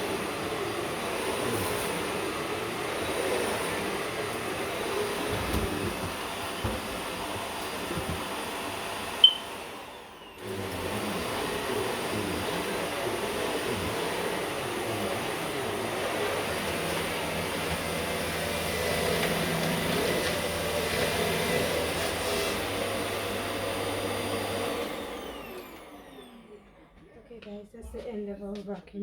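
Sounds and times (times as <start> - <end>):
vacuum cleaner running: 0.0 - 27.3.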